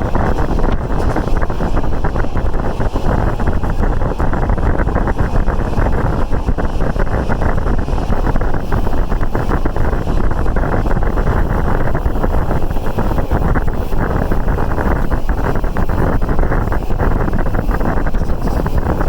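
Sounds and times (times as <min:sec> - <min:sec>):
passenger train running: 0:00.0 - 0:19.0
wind on microphone: 0:00.0 - 0:19.0.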